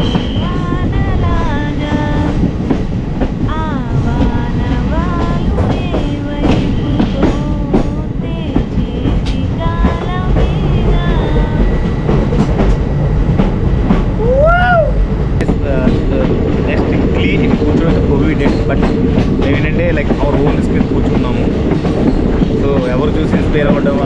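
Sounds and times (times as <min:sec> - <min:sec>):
train rumbling and clattering: 0:00.0 - 0:24.0.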